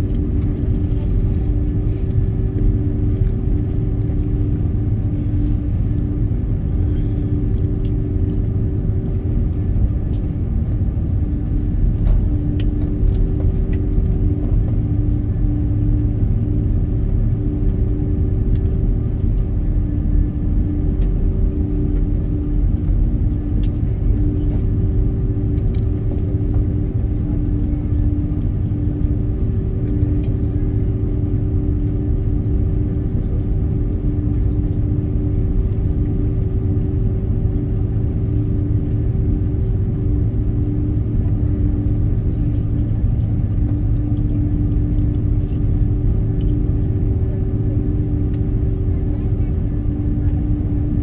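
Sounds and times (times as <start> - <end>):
airliner cabin rumble: 0.0 - 51.0
steady hum: 0.0 - 51.0.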